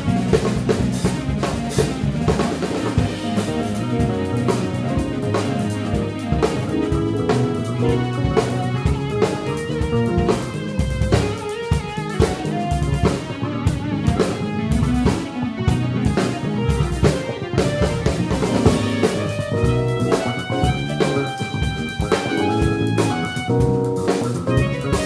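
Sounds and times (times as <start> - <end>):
drum kit: 0.0 - 25.0
electric bass lines: 0.0 - 25.0.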